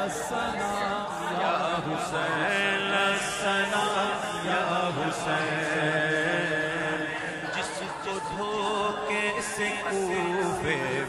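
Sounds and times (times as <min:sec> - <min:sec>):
voices chanting: 0:00.0 - 0:11.0.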